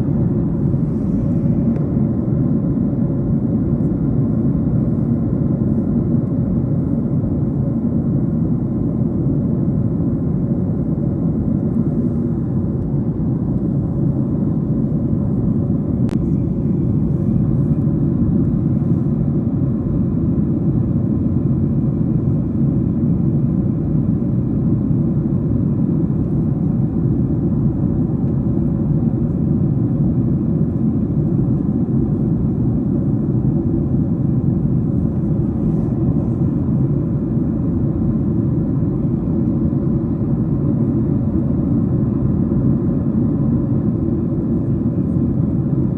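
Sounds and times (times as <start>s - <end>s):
airplane cabin rumble: 0.0s - 45.9s.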